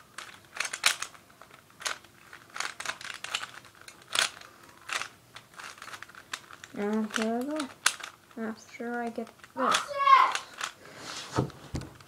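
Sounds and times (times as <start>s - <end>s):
puzzle cube clicking as turned: 0.2s - 10.8s.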